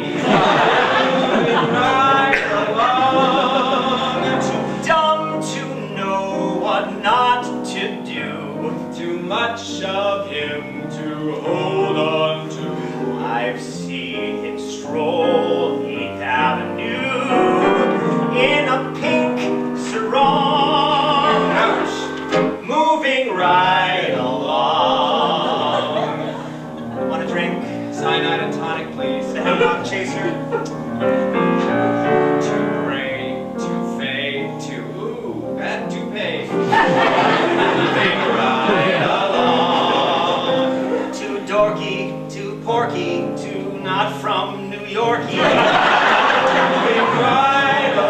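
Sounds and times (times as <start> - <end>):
piano accompaniment: 0.0 - 48.0
two men singing a duet: 0.0 - 48.0.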